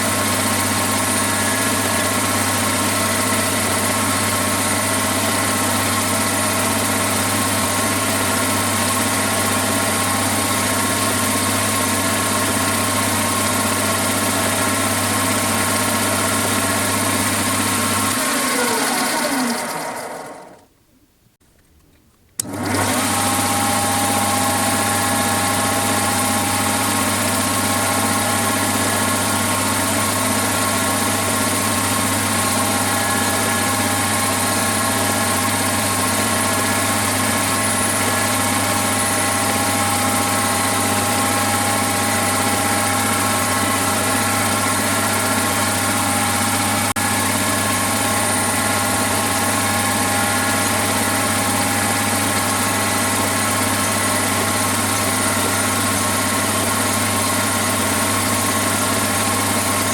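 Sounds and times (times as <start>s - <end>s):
electric motor humming and whining: 0.0s - 20.6s, 22.4s - 59.9s.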